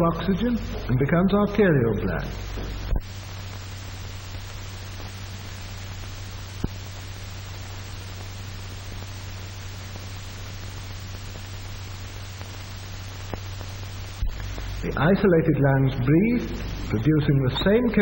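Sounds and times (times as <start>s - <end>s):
low hum: 0.0s - 18.0s
steady hiss: 0.0s - 18.0s.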